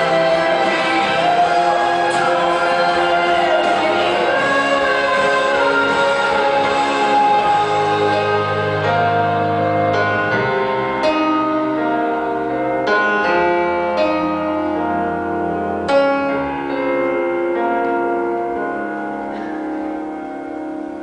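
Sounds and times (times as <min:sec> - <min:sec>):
piano chords ringing: 0:00.0 - 0:21.0.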